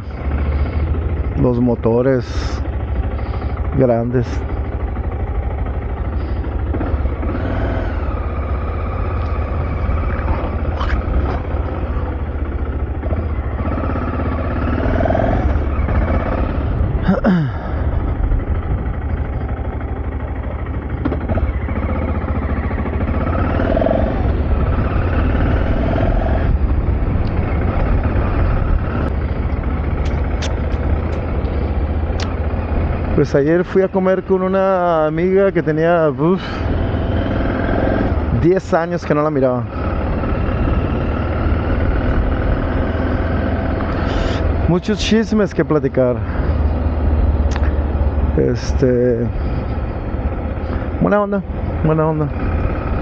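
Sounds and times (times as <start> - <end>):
car road and engine noise: 0.0 - 53.0.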